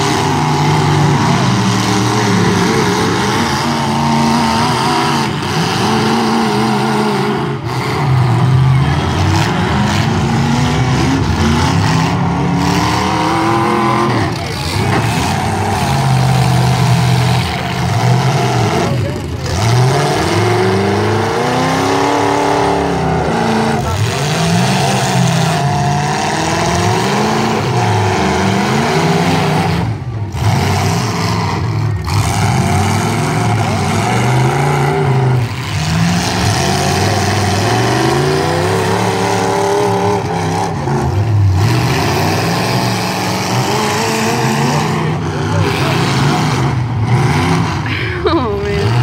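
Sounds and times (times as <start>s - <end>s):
truck engines revving hard: 0.0s - 49.0s.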